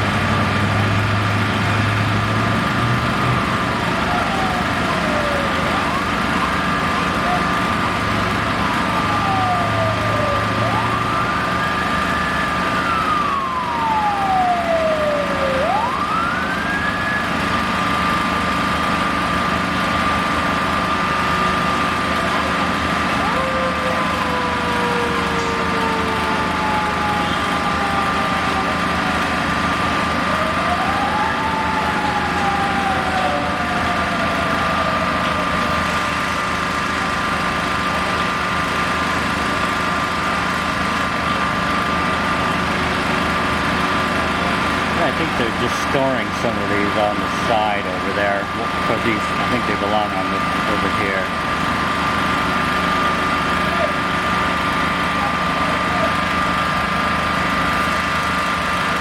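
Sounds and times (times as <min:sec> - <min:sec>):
emergency vehicle siren wailing: 0:00.0 - 0:59.0
street traffic noise: 0:00.0 - 0:59.0.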